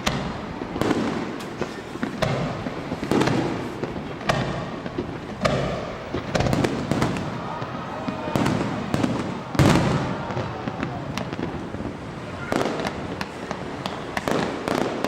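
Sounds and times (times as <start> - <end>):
firework shells bursting: 0.0 - 15.0
small firework cracks: 0.0 - 15.0.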